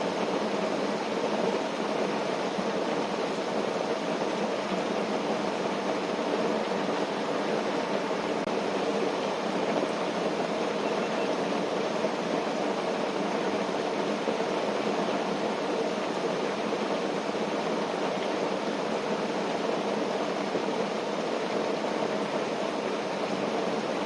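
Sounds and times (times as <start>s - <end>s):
outdoor nature ambience rushing: 0.0s - 24.0s.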